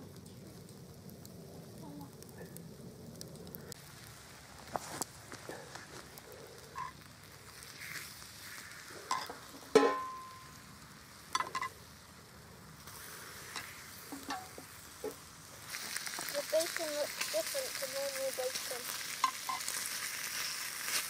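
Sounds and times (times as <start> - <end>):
bacon sizzling in a pan: 3.7 - 21.0.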